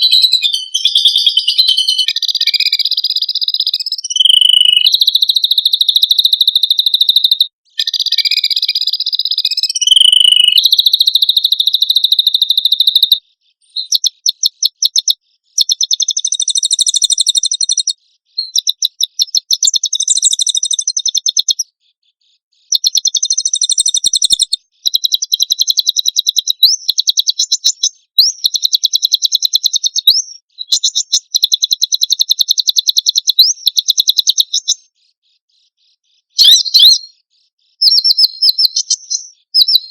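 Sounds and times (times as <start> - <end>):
songbird singing fast trills: 0.0 - 21.8, 22.6 - 39.9.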